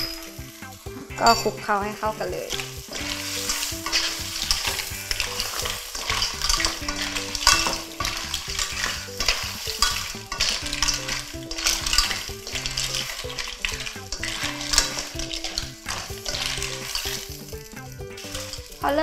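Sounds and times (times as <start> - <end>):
clams sizzling in a wok: 0.0 - 19.0
spatula scraping and shells clattering: 0.0 - 19.0.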